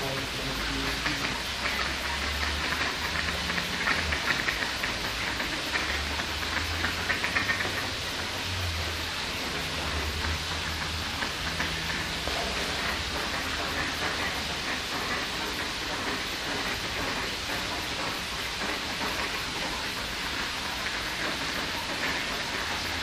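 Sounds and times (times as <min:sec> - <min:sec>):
watery hiss: 0:00.0 - 0:23.0
small splashy ticks: 0:00.8 - 0:23.0.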